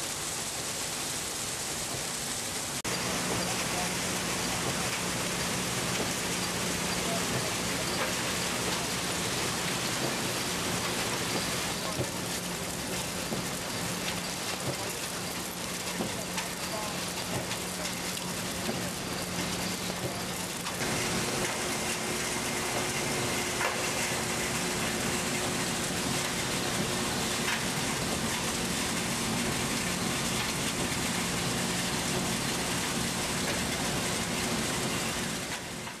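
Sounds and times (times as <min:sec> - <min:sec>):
machine noise with hum: 0:02.4 - 0:36.0.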